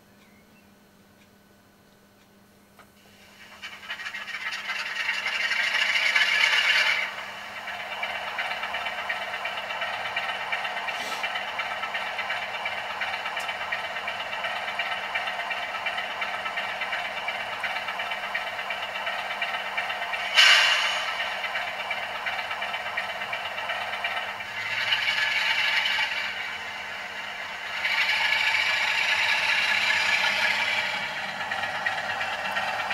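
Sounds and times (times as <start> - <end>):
model train wheels rattling: 3.2 - 32.9.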